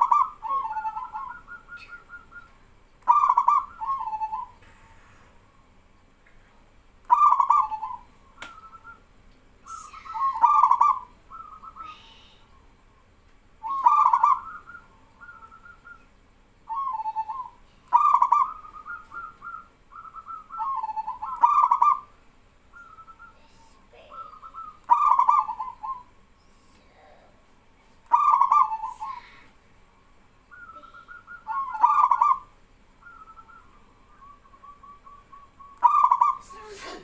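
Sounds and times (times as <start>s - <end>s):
doves cooing: 0.0s - 4.6s, 7.1s - 9.1s, 9.7s - 12.2s, 13.6s - 26.2s, 28.0s - 37.0s.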